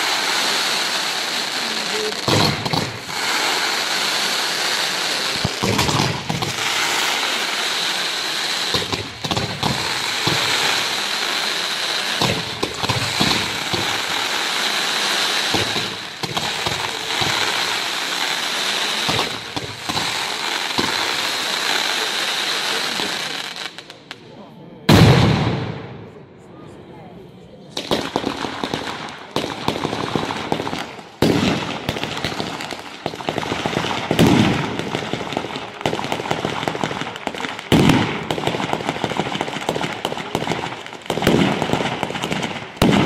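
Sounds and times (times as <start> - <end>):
firework fountains hissing: 0.0 - 23.9, 27.8 - 43.0.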